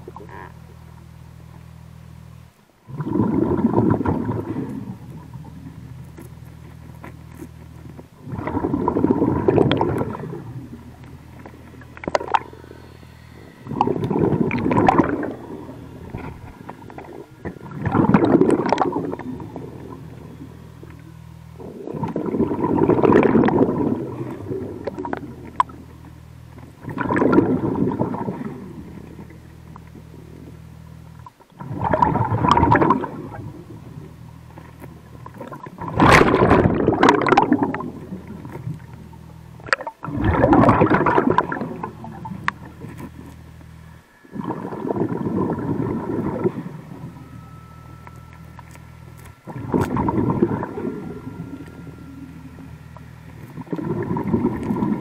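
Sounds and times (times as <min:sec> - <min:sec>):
low steady hum: 0:00.0 - 0:55.0
exhaled breath bubbling underwater: 0:02.8 - 0:06.3, 0:07.8 - 0:26.0, 0:26.7 - 0:29.4, 0:31.4 - 0:34.2, 0:35.0 - 0:43.3, 0:44.0 - 0:47.4, 0:49.3 - 0:55.0.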